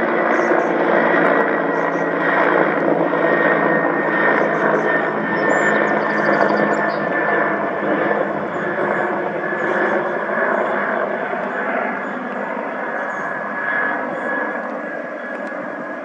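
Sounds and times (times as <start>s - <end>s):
aircraft engines roaring: 0.0s - 16.0s.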